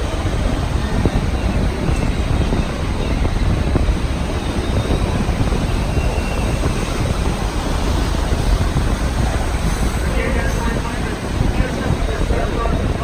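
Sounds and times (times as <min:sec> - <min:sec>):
moving train rumble: 0:00.0 - 0:13.0.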